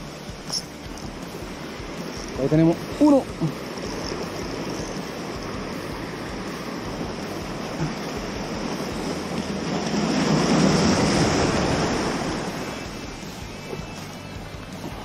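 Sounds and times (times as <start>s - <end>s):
ocean wave surging in: 0.0s - 15.0s
steady sea noise: 0.0s - 15.0s.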